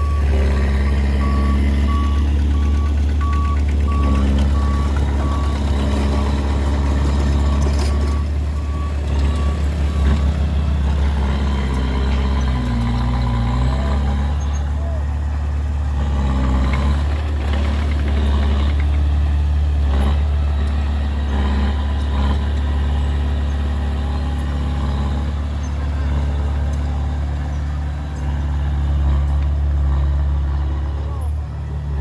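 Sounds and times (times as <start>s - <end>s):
heavy diesel engine droning: 0.0s - 32.0s.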